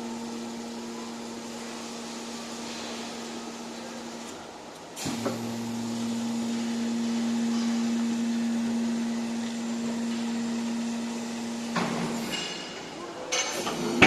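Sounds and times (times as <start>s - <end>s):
hydraulic pump motor humming: 0.0s - 12.4s.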